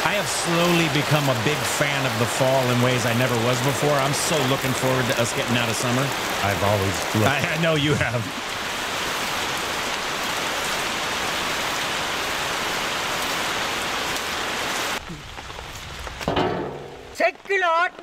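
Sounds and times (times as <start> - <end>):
heavy rain dripping off roof: 0.0 - 18.0.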